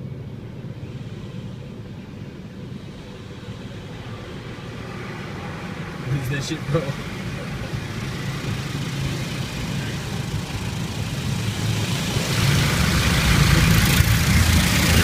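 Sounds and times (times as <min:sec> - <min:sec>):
car wash machinery rumbling: 0:00.0 - 0:15.0.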